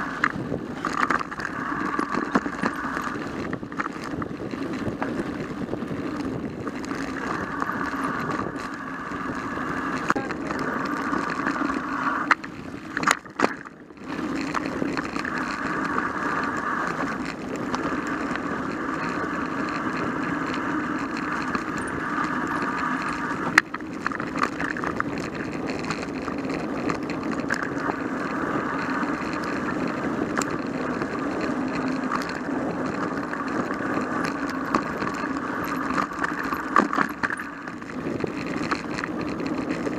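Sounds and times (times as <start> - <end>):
bike tyre rumble and rattle: 0.0 - 39.9.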